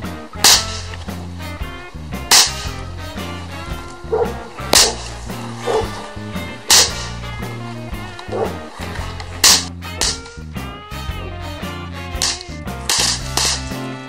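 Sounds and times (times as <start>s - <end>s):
bang snaps cracking: 0.0s - 1.3s, 2.2s - 13.9s
background music: 0.0s - 14.0s.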